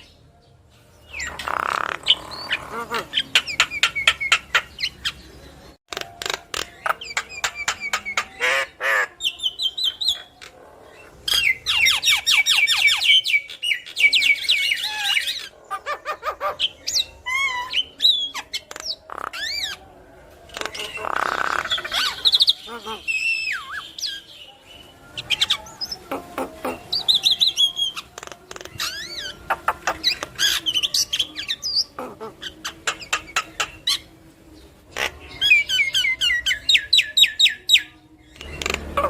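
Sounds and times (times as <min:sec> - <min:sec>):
myna chattering song: 0:00.9 - 0:39.0.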